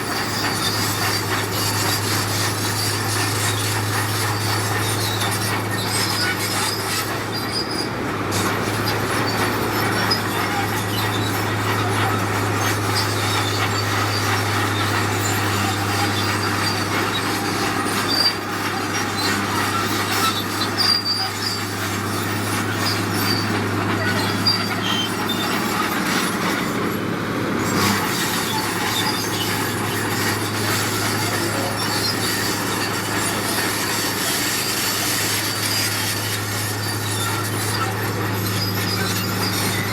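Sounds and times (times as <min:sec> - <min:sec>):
diesel construction machinery running: 0:00.0 - 0:39.9
grinding and squealing scrape: 0:00.0 - 0:39.9.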